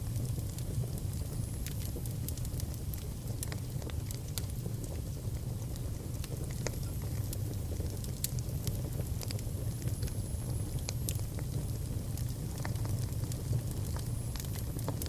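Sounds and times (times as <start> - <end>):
fire crackles and pops: 0.0 - 15.0
fire rumbling in fireplace: 0.0 - 15.0.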